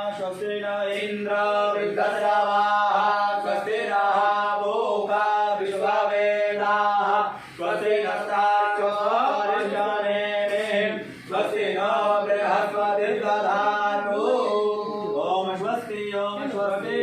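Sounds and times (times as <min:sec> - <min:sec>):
devotional chanting: 0:00.0 - 0:17.0.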